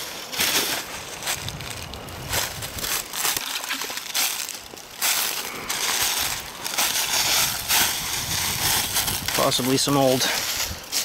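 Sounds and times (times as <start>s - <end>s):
footsteps on dry leaves: 0.0s - 11.0s.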